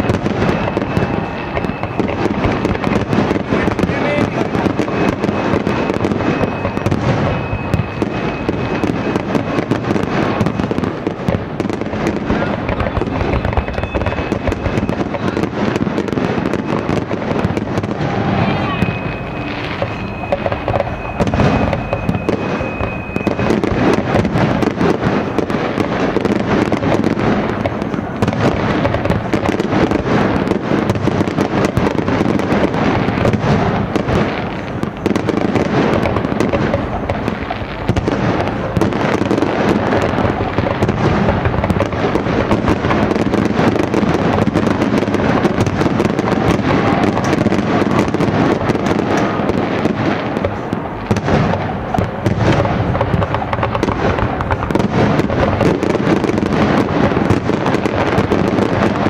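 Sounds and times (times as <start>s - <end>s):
fireworks bangs and pops: 0.0s - 59.0s.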